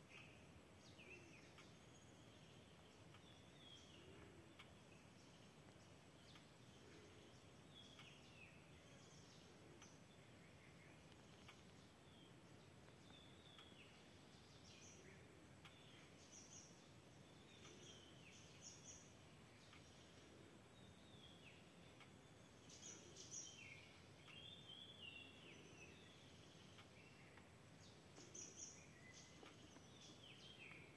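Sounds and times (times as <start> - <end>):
faint bird calls: 0.0 - 30.9
low ambient hiss: 0.0 - 30.9.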